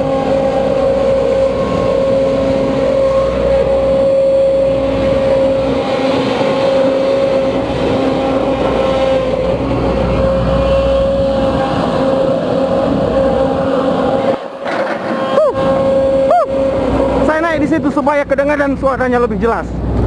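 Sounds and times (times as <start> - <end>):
excavator engine running: 0.0 - 20.0
hydraulic pump whine: 0.0 - 20.0.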